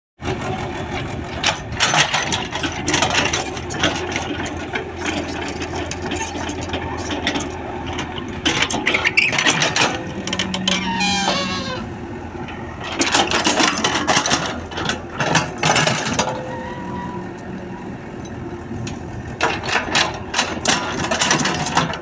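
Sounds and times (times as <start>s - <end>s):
excavator diesel engine running: 0.2s - 22.0s.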